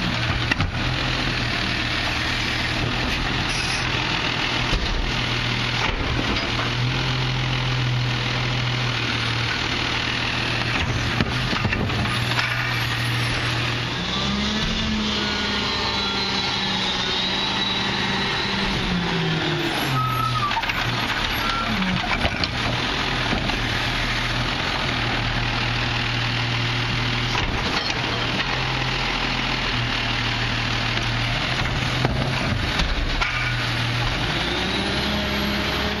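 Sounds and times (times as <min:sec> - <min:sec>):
garbage truck engine running: 0:00.0 - 0:36.0.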